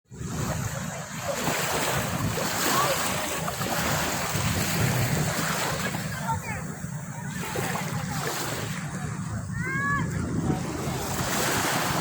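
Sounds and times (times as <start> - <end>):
ocean waves washing onto beach: 0.1 - 12.0
wind buffeting microphone: 0.1 - 12.0.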